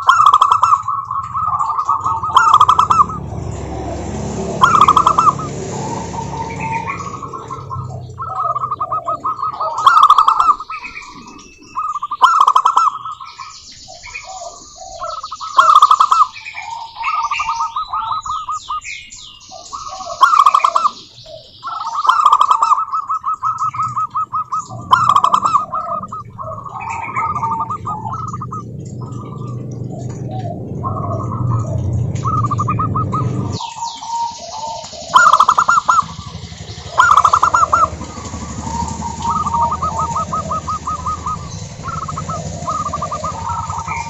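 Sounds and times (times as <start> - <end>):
doves trilled cooing: 0.0 - 44.0
small birds chirping and whistling: 0.0 - 44.0.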